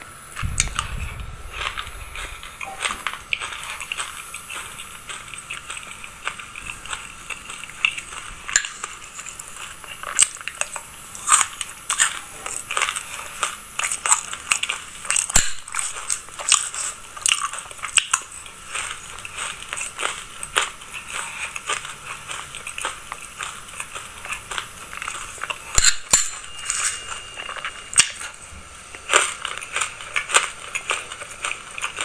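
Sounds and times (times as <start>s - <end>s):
chewing crunchy seeds: 0.0s - 32.0s.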